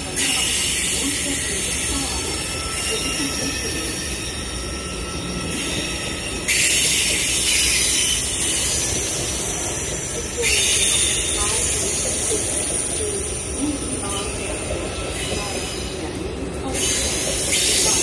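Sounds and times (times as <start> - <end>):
train on steel rails: 0.0 - 18.0.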